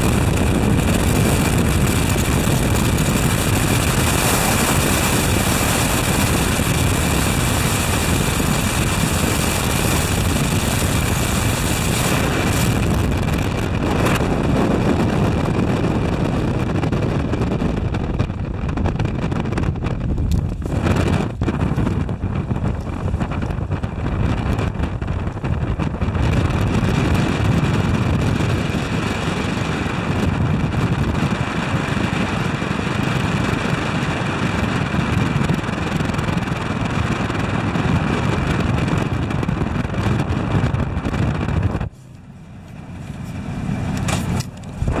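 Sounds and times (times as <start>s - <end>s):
aircraft engine running: 0.0s - 33.4s, 34.0s - 45.0s
wind rush on microphone: 0.0s - 45.0s.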